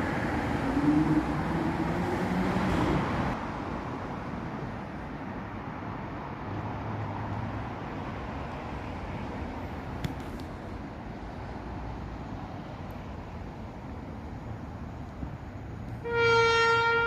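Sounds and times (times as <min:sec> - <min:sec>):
diesel train engine: 0:00.0 - 0:17.0
low rumble of vehicle noise: 0:00.0 - 0:17.0.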